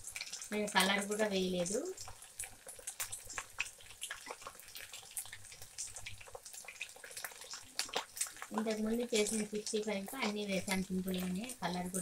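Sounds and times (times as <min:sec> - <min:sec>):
chicken deep-frying in oil: 0:00.0 - 0:12.0
oil crackling and popping: 0:00.0 - 0:12.0.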